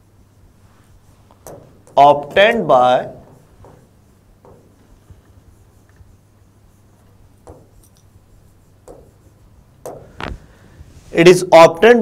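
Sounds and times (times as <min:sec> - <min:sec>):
chalk tapping and scratching: 0:00.0 - 0:11.3
low steady hum: 0:00.0 - 0:12.0.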